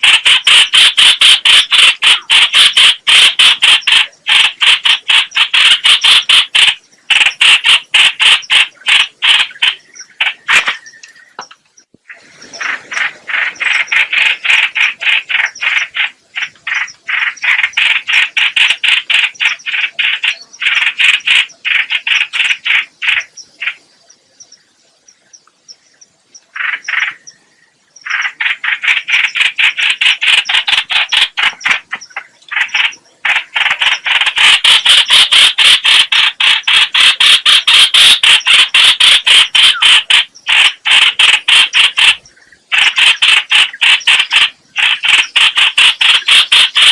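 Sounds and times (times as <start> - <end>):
bird harsh chattering calls: 0.0 - 23.9, 26.4 - 46.9.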